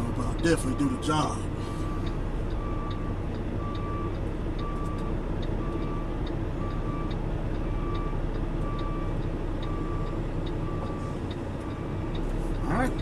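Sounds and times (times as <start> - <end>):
diesel engine running: 0.0 - 13.0
truck reverse alarm beeping: 0.0 - 13.0.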